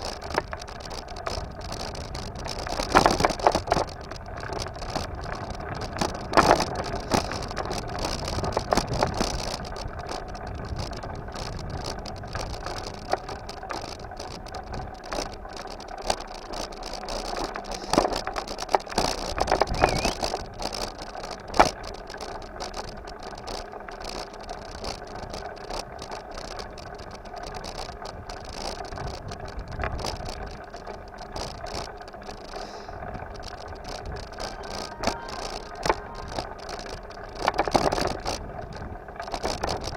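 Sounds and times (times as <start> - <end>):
bicycle frame rattling: 0.0 - 39.9
road noise: 0.0 - 39.9.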